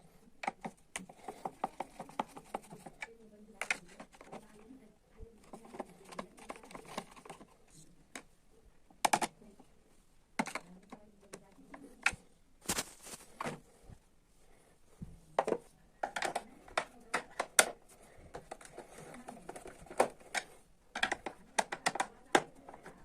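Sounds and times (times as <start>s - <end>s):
plastic parts clicking and clattering: 0.0s - 4.8s, 5.4s - 8.3s, 8.9s - 9.5s, 10.4s - 13.7s, 15.4s - 23.0s.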